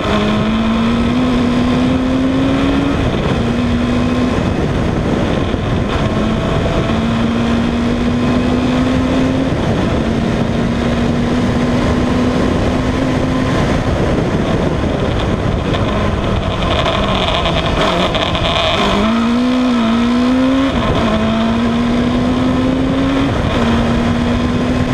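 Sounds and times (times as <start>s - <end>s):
racing engine revving: 0.0s - 24.9s
wind rushing: 0.0s - 24.9s.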